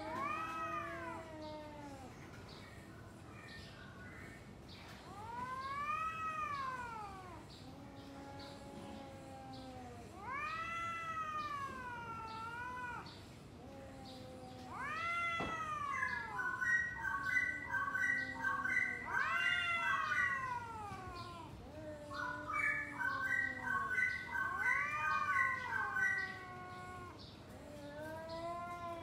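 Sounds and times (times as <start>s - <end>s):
cats yowling: 0.0s - 3.6s, 4.2s - 29.0s.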